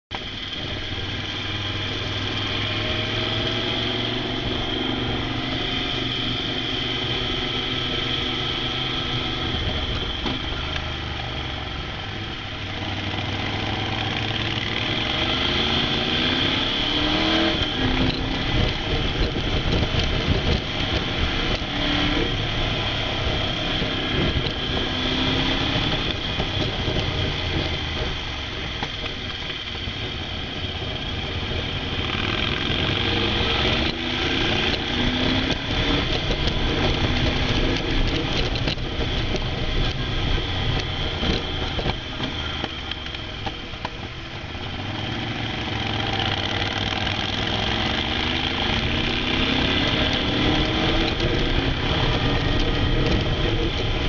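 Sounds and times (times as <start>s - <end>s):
motorcycle engine revving: 0.1s - 54.0s
wind and road noise: 0.1s - 54.0s.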